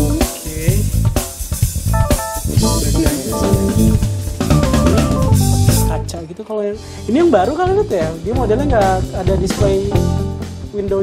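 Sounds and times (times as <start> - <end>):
instrumental music with drums and bass: 0.0 - 11.0.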